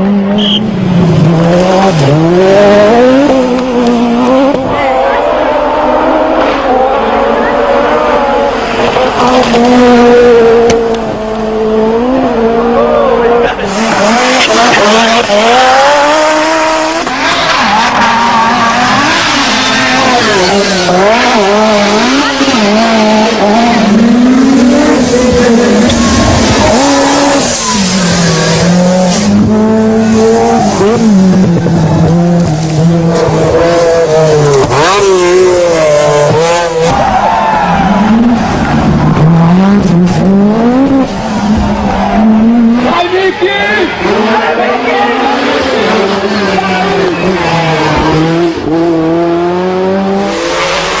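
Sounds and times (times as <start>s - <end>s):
rally car engines revving: 0.0s - 51.0s.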